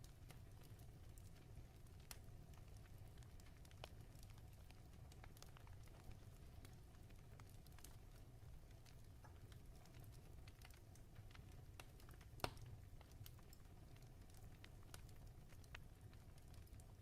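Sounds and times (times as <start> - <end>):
fireplace crackling: 0.0 - 17.0
fire popping: 0.1 - 17.0.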